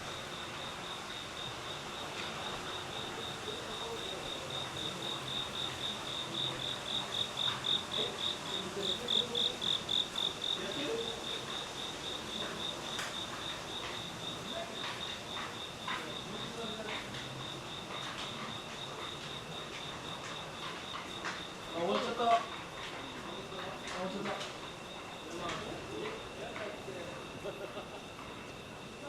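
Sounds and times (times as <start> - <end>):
cricket chirping: 0.0 - 29.0.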